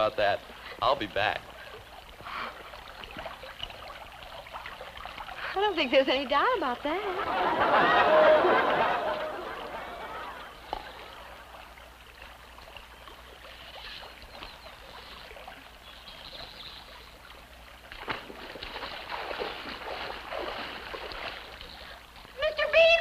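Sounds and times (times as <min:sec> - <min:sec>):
water splashing and sloshing: 0:00.0 - 0:23.0.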